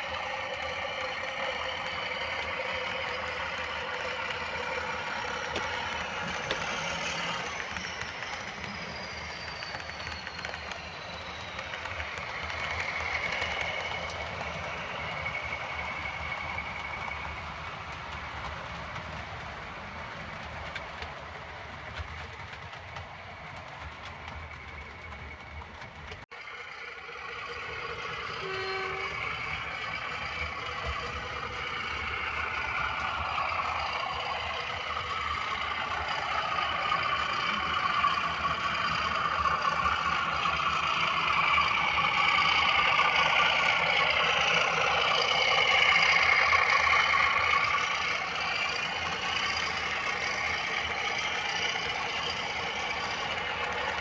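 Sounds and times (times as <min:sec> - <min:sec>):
model locomotive diesel engine sound: 0:00.0 - 0:54.0
model train running noise: 0:00.0 - 0:54.0.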